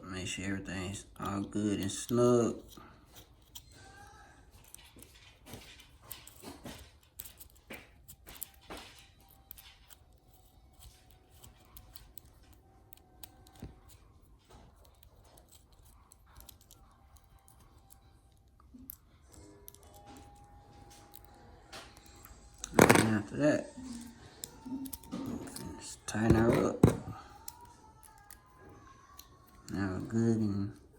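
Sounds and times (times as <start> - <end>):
small screwdriver clicking and scraping: 1.2 - 3.9, 4.5 - 22.8, 23.8 - 30.8.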